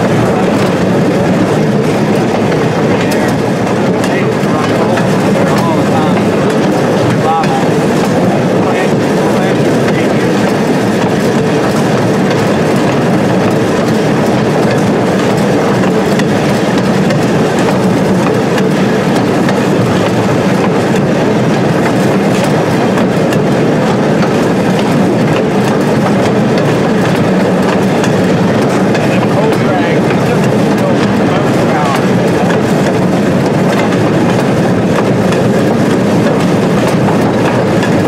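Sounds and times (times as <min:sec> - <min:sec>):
rail joint clicks: 0:00.0 - 0:38.0
train wheels rumbling on track: 0:00.0 - 0:38.0.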